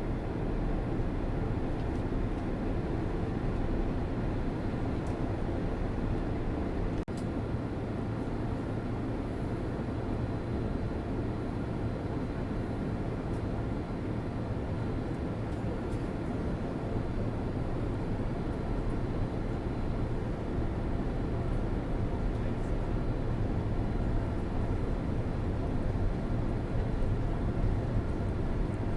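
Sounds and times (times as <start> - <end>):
airplane cabin engine noise: 0.0 - 28.9.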